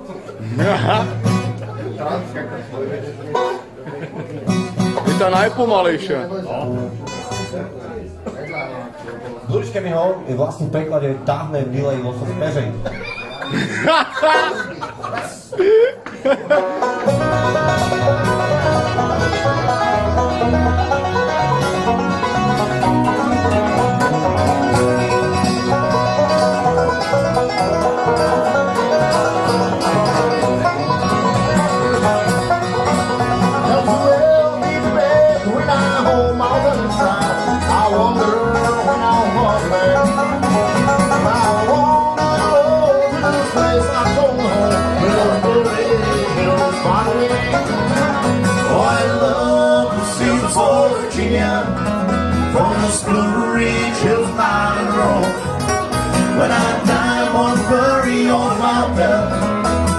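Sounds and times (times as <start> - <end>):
bass: 0.0 - 3.1, 4.4 - 8.5, 17.0 - 59.9
strummed acoustic guitar: 0.0 - 3.8, 4.4 - 8.4, 16.4 - 59.9
banjo picking: 0.0 - 59.9.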